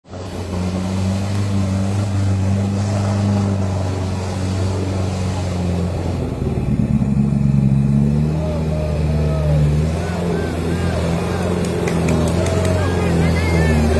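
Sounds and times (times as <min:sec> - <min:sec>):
off-road vehicle engine running: 0:00.0 - 0:13.9.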